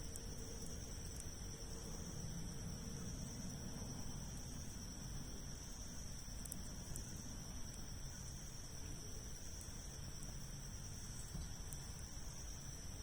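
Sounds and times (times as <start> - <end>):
campfire crackling: 0.0 - 12.8.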